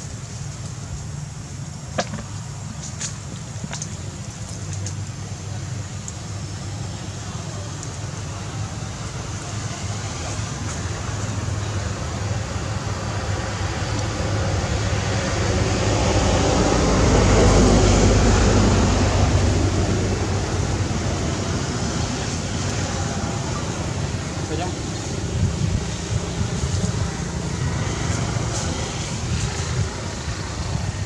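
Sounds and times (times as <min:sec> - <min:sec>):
outdoor rumble and hiss: 0:00.0 - 0:31.0.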